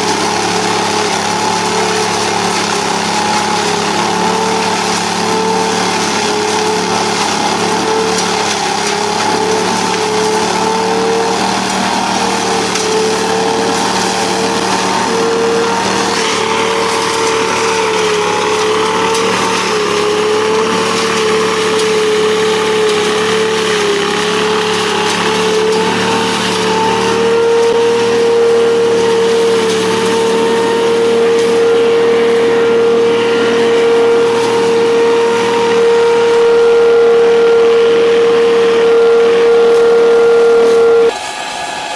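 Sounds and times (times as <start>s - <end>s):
leaf vacuum engine whine: 0.0s - 41.9s.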